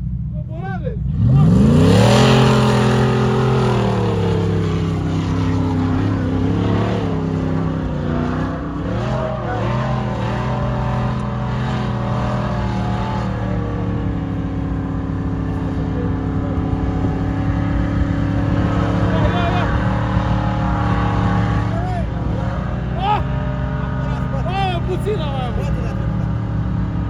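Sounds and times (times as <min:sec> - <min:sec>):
engine revving: 0:00.0 - 0:27.0.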